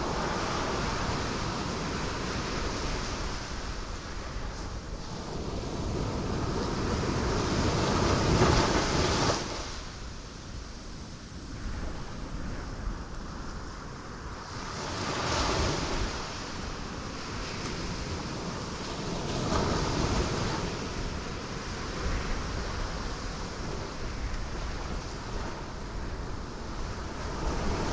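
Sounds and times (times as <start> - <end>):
ocean waves crashing on rocks: 0.0 - 10.4, 11.6 - 27.9.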